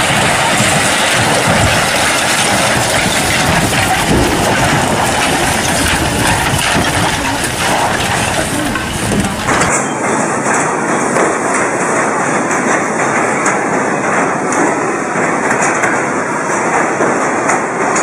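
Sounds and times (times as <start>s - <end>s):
walls and roof tiles crumbling: 0.0s - 18.0s.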